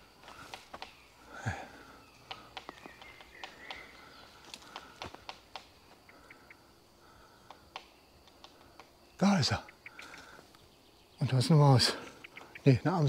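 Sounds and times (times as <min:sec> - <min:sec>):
faint birdsong: 0:00.0 - 0:13.0
woodpecker tapping: 0:00.2 - 0:13.0.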